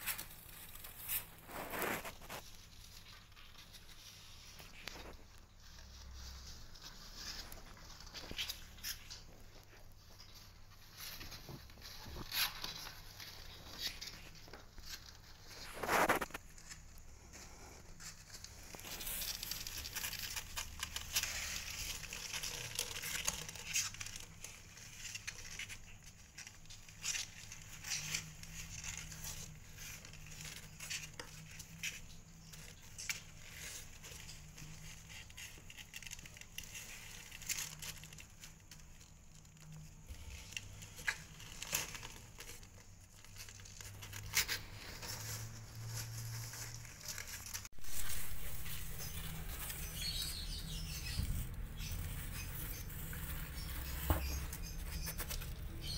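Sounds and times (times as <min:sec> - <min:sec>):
kittens scratching on cardboard: 0:00.0 - 0:55.9.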